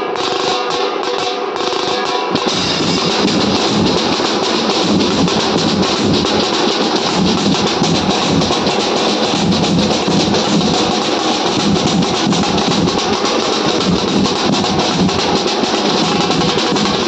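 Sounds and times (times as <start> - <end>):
cymbals: 0.0 - 17.0
fast hand-drum beats: 0.0 - 17.0.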